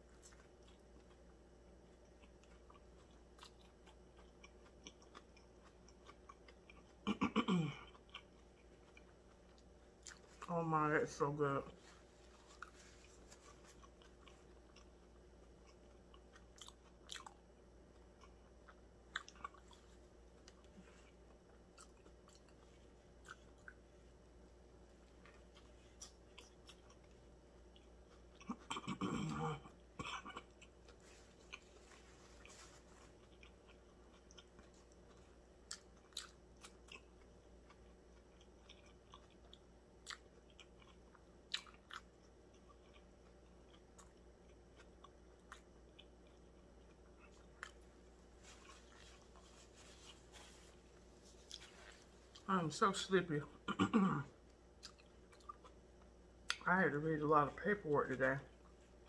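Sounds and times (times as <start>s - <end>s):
person chewing: 0.0s - 52.5s, 53.4s - 56.6s.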